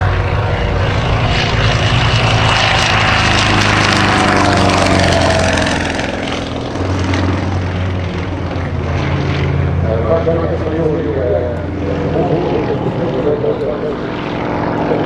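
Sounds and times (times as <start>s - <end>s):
propeller plane engine in flight: 0.0s - 15.0s.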